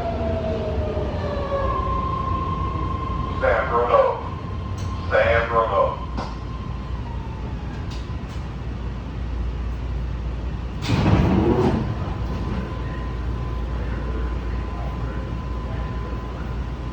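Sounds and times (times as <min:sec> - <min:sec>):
train car rumbling: 0:00.0 - 0:16.9.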